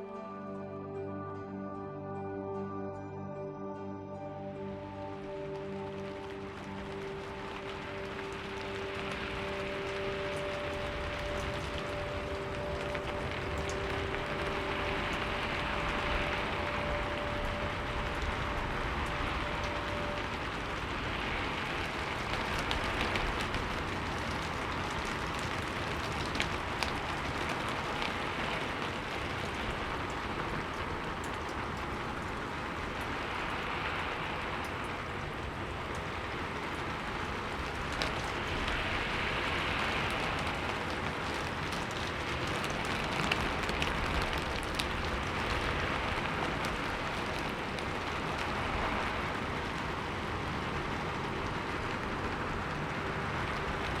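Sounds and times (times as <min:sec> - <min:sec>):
steady rain hiss: 0:04.4 - 0:54.0
raindrops ticking: 0:04.5 - 0:54.0.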